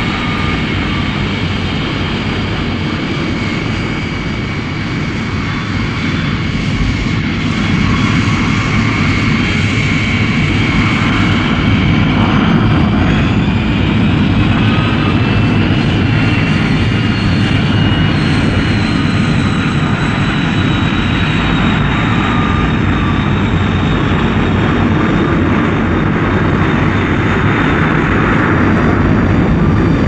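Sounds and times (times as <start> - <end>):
high whine: 0.0 - 30.0
jet engine roar: 0.0 - 30.0.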